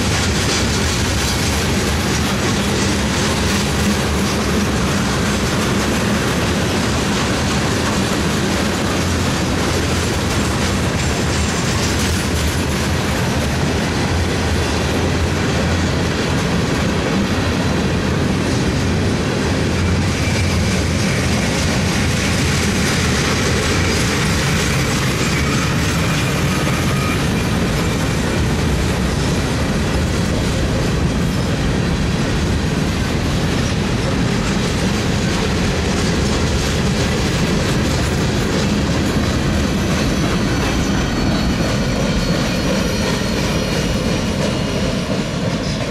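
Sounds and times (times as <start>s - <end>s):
freight train wheels on rails: 0.0s - 45.9s.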